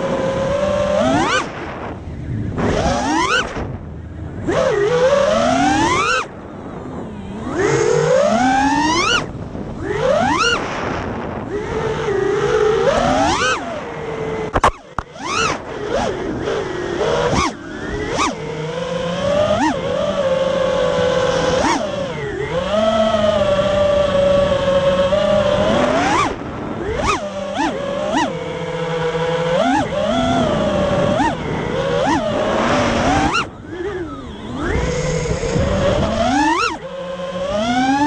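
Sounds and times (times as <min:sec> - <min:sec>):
quadcopter motors whining: 0:00.0 - 0:38.0.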